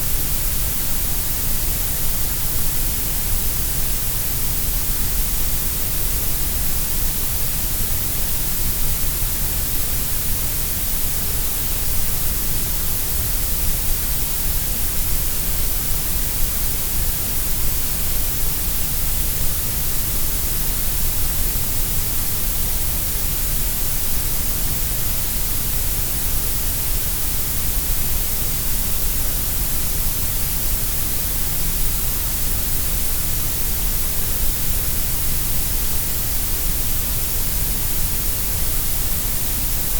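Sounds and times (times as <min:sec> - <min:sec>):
synthetic grey noise hiss: 0:00.0 - 0:39.9.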